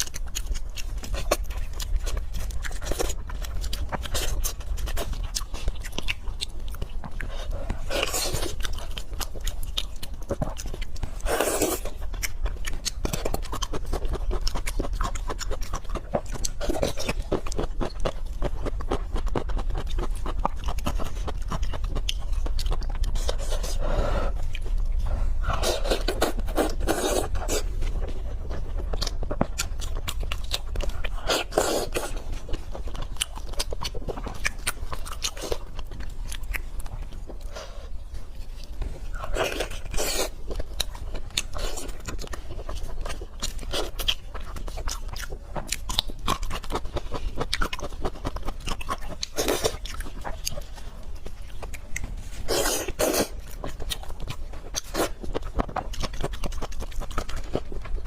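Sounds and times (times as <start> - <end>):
close-miked wet chewing: 0.0 - 58.0.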